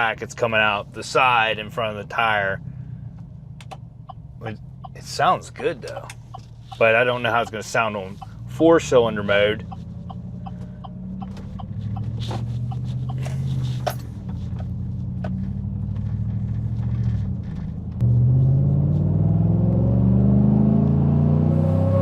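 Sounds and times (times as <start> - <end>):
truck engine exhaust drone: 0.0 - 19.6.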